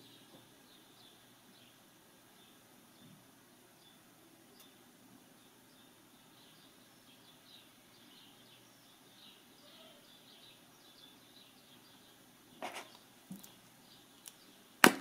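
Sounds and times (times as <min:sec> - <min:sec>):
faint bird chirps: 0:00.0 - 0:14.7.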